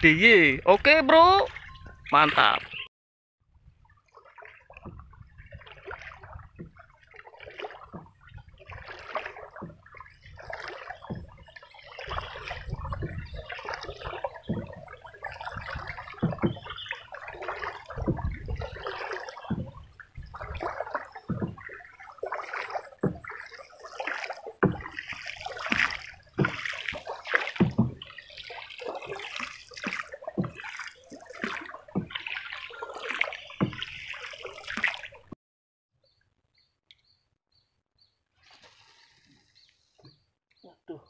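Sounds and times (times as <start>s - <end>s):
water splashing around boat: 0.0s - 2.9s, 3.5s - 35.4s.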